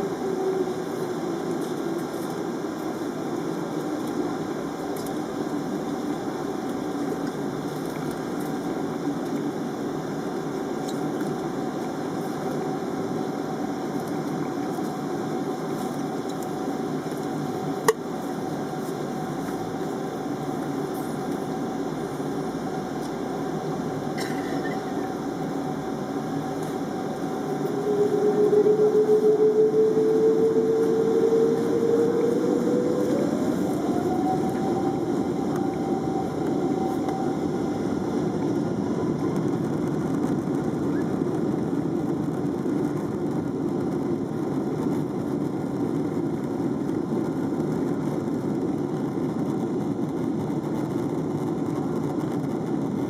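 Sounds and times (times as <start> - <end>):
jet engines humming and whining: 0.0 - 53.0.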